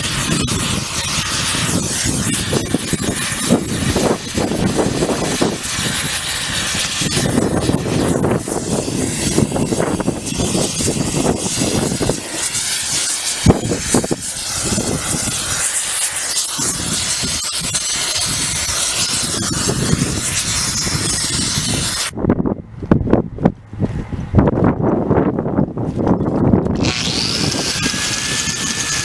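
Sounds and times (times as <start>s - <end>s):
compressed air hissing: 0.0s - 22.1s, 26.8s - 29.0s.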